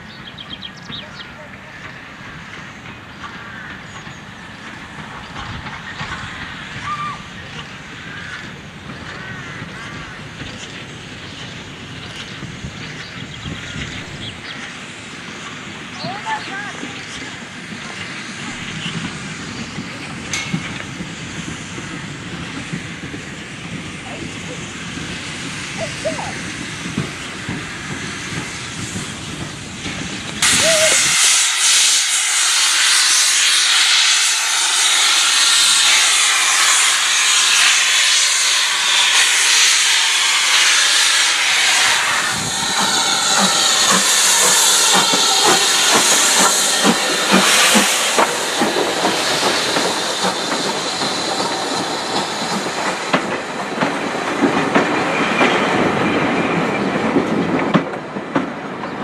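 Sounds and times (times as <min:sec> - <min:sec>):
steam locomotive hissing: 0:00.0 - 0:59.0
train wheels clattering over rail joints: 0:00.6 - 0:25.6, 0:26.4 - 0:30.6, 0:38.5 - 0:59.0.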